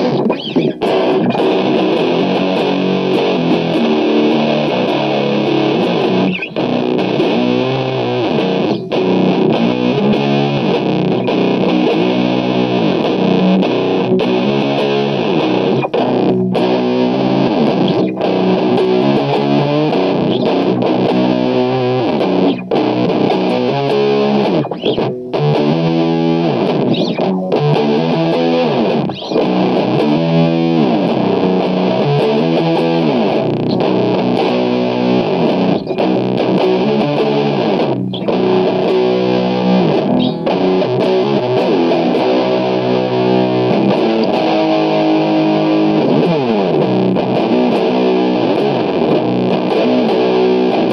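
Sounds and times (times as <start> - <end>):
distorted electric guitar riffing: 0.0 - 50.9.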